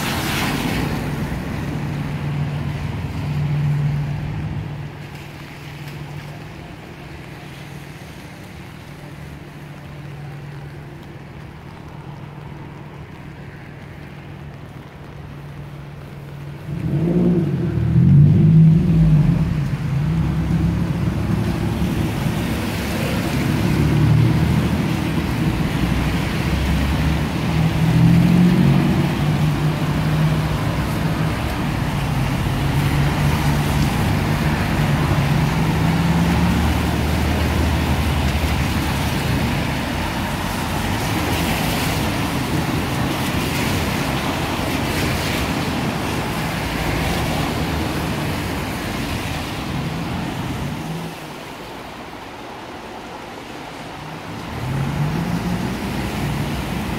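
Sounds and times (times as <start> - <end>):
car engines running: 0.0 - 52.1
tyres hissing over wet road: 0.0 - 56.9.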